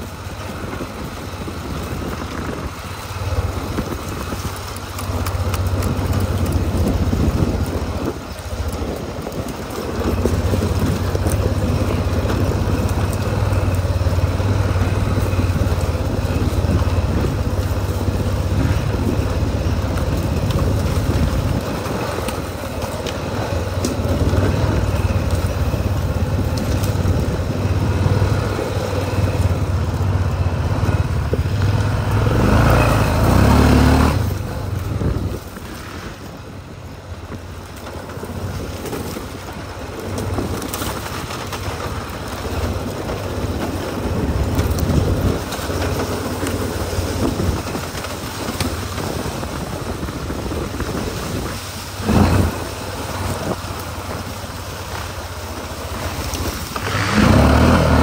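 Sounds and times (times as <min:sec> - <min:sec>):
quad engine running: 0:00.0 - 0:58.0
wind and ride noise: 0:00.0 - 0:58.0.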